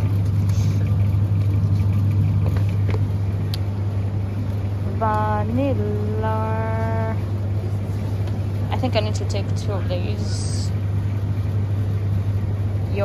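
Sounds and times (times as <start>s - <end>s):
refrigerated display hum: 0.0s - 13.0s.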